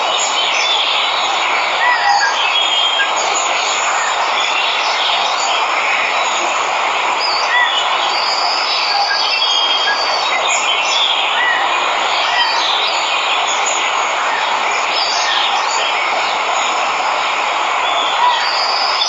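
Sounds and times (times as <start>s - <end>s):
jungle birds chirping: 0.0s - 19.0s
waterfall rushing: 0.0s - 19.0s.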